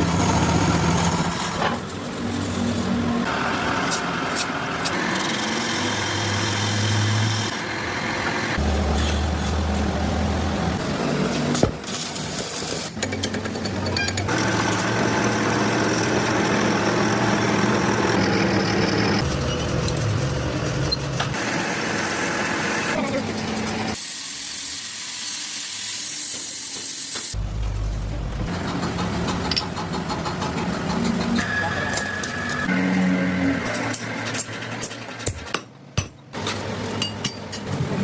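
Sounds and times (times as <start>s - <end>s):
workshop machinery humming: 0.0s - 38.0s.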